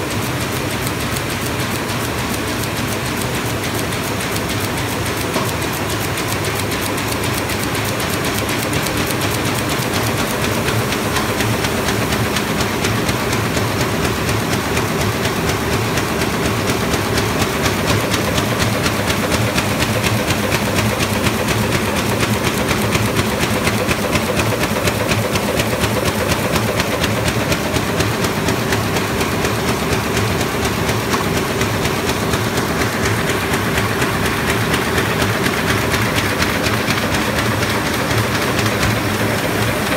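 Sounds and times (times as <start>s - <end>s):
printing press clattering: 0.0s - 39.9s.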